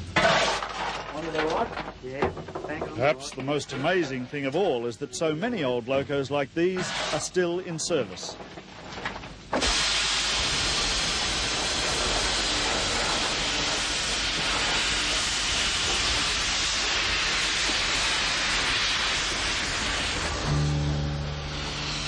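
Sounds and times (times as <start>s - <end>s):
steam locomotive venting steam: 2.9s - 22.0s.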